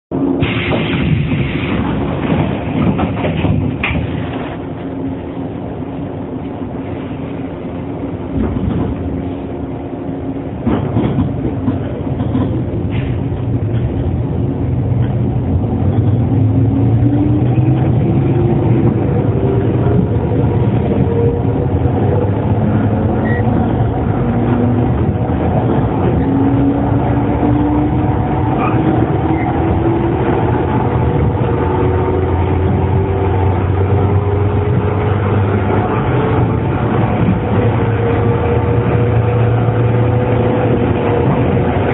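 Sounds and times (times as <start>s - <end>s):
wheels rumbling on rail: 0.1s - 41.9s.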